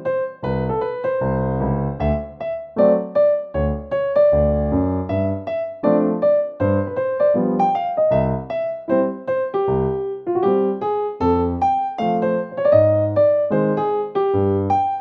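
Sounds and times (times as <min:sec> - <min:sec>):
upbeat electric piano music: 0:00.0 - 0:15.0.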